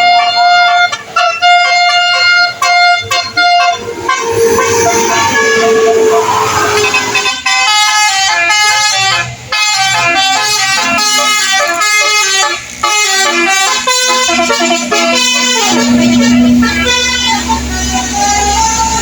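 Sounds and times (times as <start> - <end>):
multi-tone vehicle horn melody: 0.0 - 19.0.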